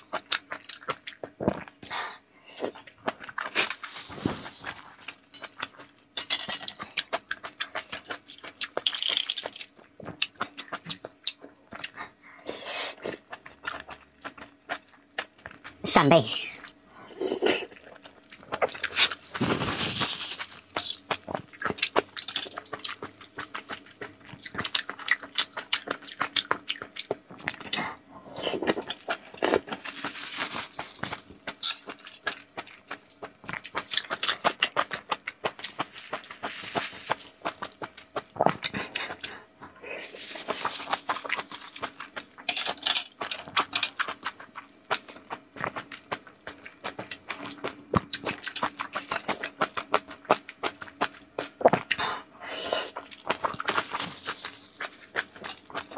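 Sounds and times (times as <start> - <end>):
person chewing wetly: 0.0 - 1.8, 2.6 - 15.8, 16.6 - 55.9.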